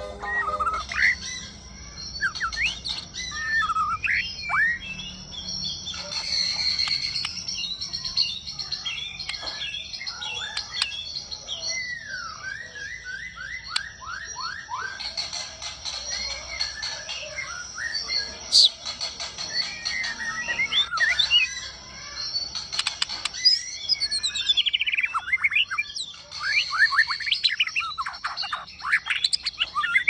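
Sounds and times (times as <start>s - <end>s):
bird singing whistled phrases: 0.0s - 15.2s, 19.4s - 30.0s
fast high bird chatter: 0.0s - 30.0s.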